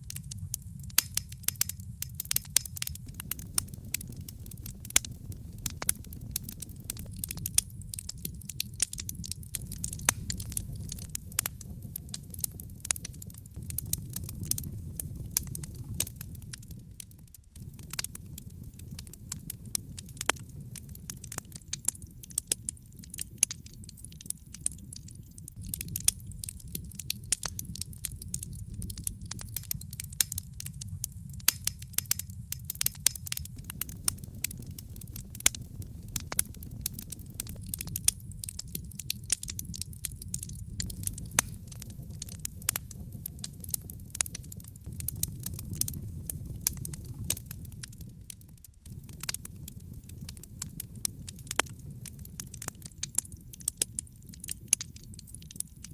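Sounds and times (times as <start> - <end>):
low rumble of flames: 0.0 - 55.9
wood crackling and popping: 0.0 - 55.9.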